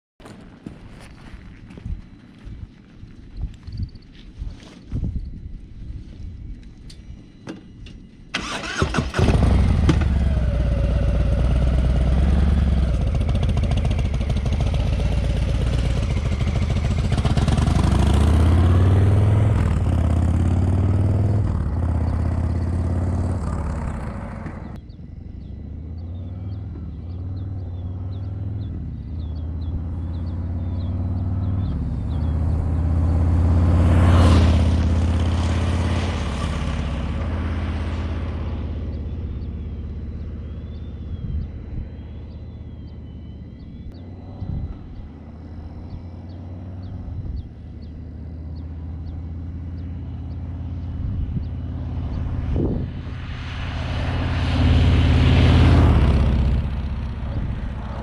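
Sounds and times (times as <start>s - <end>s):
motorcycle engine starting: 7.4s - 58.0s
motorcycle engine revving: 8.4s - 58.0s.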